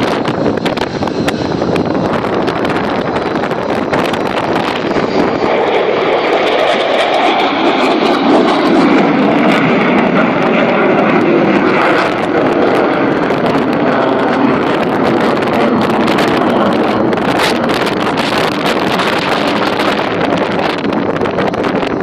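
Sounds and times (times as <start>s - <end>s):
aircraft engine drone: 0.0s - 22.0s
wind buffeting microphone: 0.0s - 22.0s.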